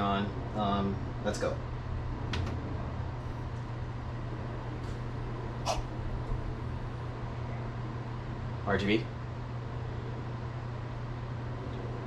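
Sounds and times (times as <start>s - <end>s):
low fan hum: 0.0s - 12.0s.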